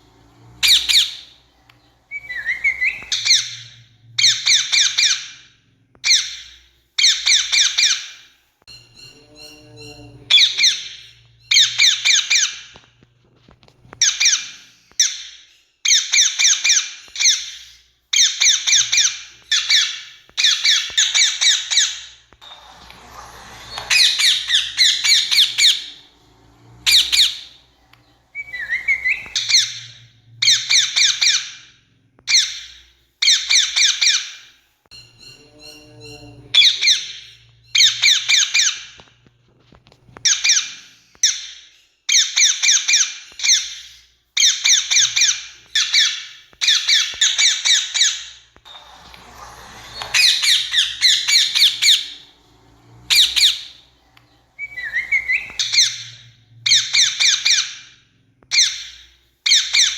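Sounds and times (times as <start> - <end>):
parakeets screeching: 0.0 - 13.0, 13.6 - 39.1, 39.8 - 59.9.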